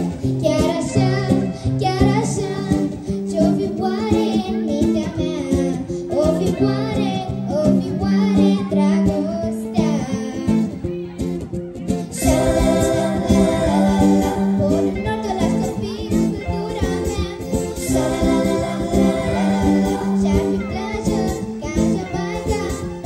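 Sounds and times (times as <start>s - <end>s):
girl singing into microphone: 0.0s - 10.8s, 12.0s - 23.0s
pop backing track with guitar: 0.0s - 23.0s.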